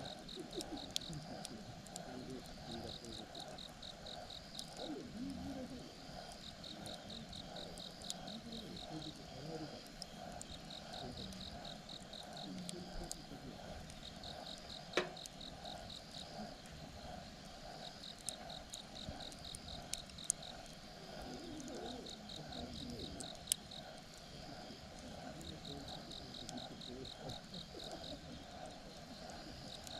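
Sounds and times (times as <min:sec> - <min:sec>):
campfire crackling: 0:00.0 - 0:29.9
campfire popping: 0:00.0 - 0:29.9
insects chirping: 0:00.0 - 0:29.9.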